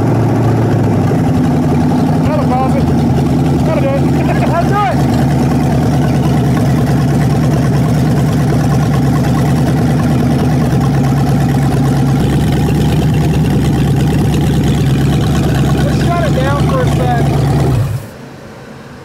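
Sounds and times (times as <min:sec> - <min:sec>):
engine idling: 0:00.0 - 0:18.3.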